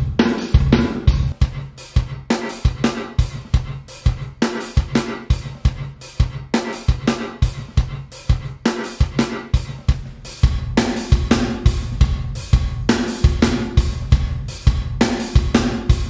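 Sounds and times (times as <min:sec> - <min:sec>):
drum kit loop with reverb: 0:00.0 - 0:16.0.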